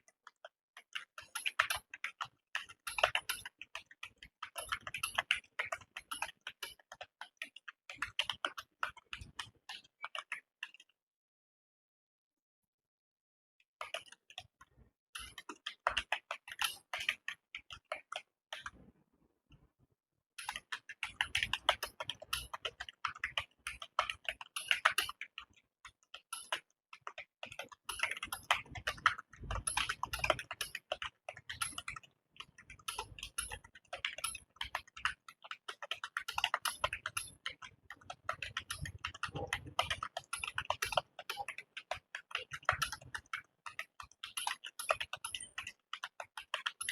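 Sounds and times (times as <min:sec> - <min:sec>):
fast typing on keyboard: 0:00.0 - 0:10.9, 0:15.2 - 0:18.7, 0:20.4 - 0:46.9.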